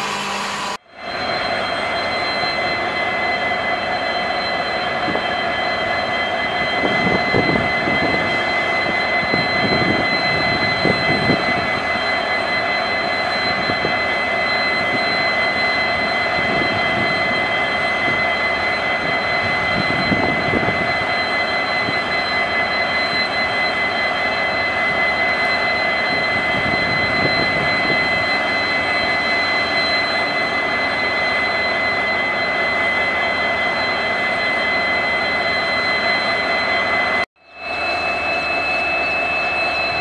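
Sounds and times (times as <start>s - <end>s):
diesel locomotive engines idling: 0.0s - 40.0s
high-pitched turbocharger whine: 0.0s - 40.0s.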